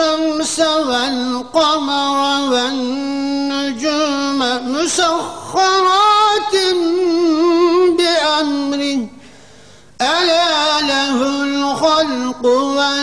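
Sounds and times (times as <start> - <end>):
man reciting in melodic chant: 0.0 - 9.3, 10.0 - 13.0.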